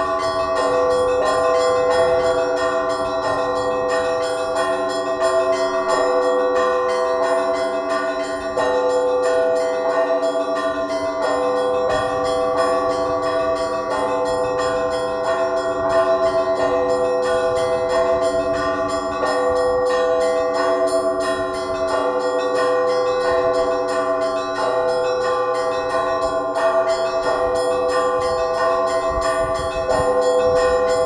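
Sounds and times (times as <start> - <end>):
church bells pealing: 0.0 - 31.0.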